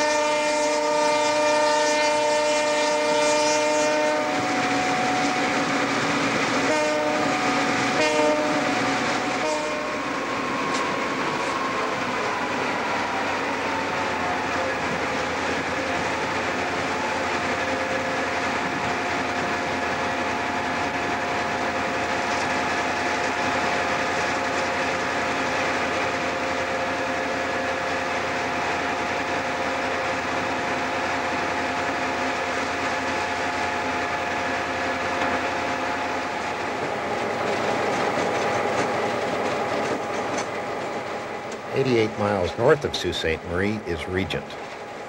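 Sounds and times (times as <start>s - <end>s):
train rolling noise: 0.0s - 45.0s
diesel engine drone: 4.2s - 38.5s, 41.1s - 45.0s.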